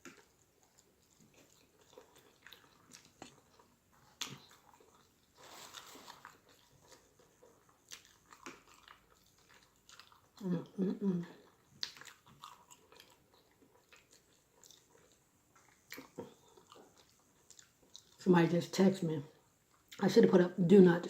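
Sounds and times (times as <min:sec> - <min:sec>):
person chewing and biting: 0:00.0 - 0:10.4, 0:11.4 - 0:18.2.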